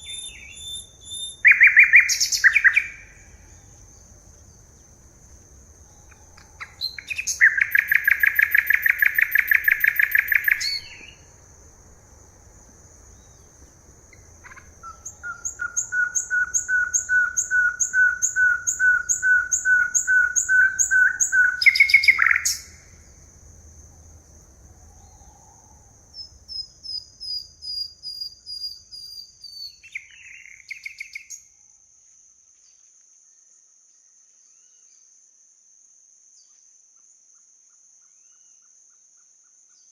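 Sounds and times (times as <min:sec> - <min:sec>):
forest birds singing: 0:00.0 - 0:31.7, 0:32.6 - 0:35.1.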